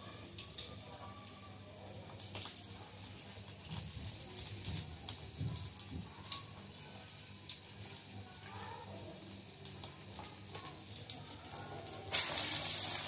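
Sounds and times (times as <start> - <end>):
frying oil sizzling: 0.0 - 13.0.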